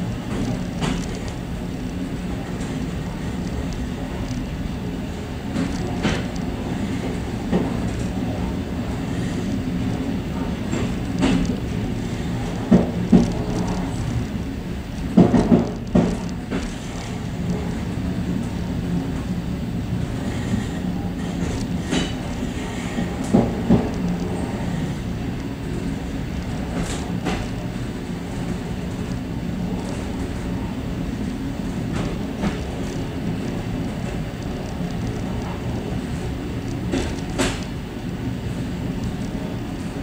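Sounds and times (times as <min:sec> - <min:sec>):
train rumbling: 0:00.0 - 0:40.0
wheels clicking over rail joints: 0:00.0 - 0:40.0.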